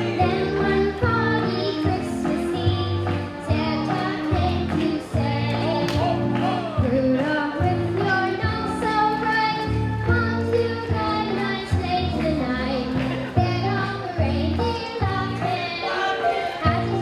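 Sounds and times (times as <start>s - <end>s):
girl singing into microphone: 0.0s - 6.2s, 6.8s - 17.0s.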